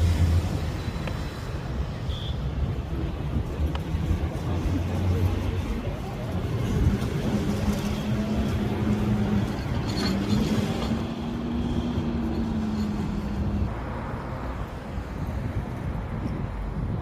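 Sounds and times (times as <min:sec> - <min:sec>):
low road rumble: 0:00.0 - 0:17.0.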